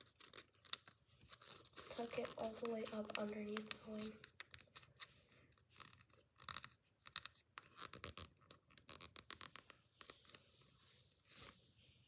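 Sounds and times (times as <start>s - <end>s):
paper crinkling and rustling: 0.0s - 11.6s.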